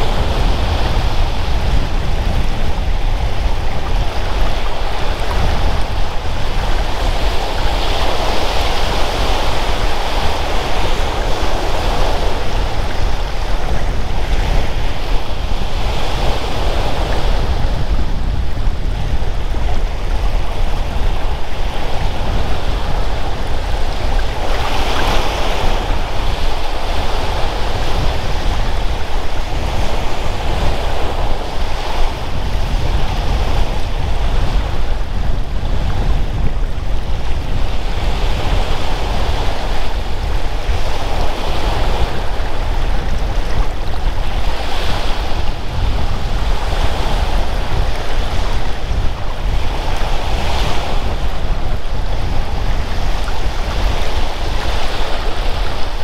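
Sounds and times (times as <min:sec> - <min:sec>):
waves washing onto a beach: 0:00.0 - 0:56.0
wind buffeting microphone: 0:00.0 - 0:56.0.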